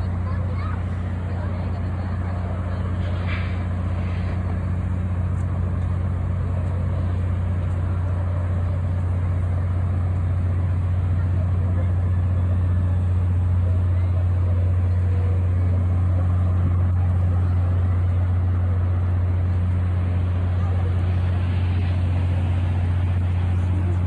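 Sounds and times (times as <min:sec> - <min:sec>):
faint outdoor noise: 0:00.0 - 0:24.0
low mechanical hum: 0:00.0 - 0:24.0.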